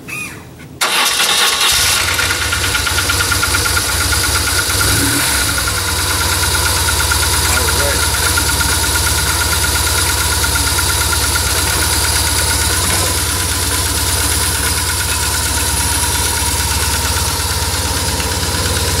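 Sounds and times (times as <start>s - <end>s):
motorcycle engine idling: 1.8s - 19.0s.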